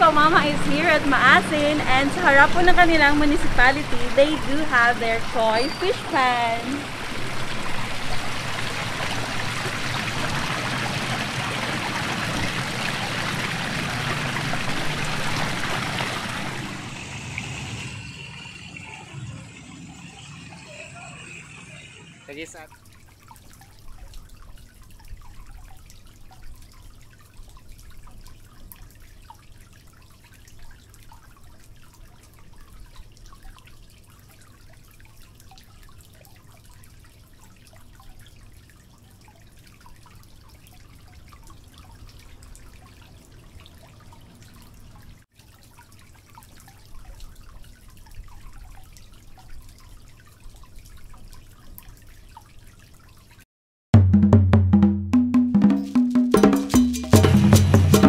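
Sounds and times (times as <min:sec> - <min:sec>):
water pouring into a pond: 0:00.1 - 0:53.5.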